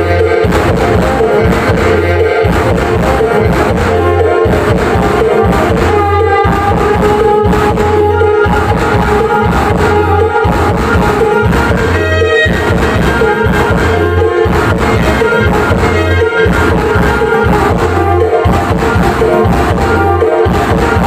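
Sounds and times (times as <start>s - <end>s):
loud music with heavy bass beat: 0.0s - 21.0s.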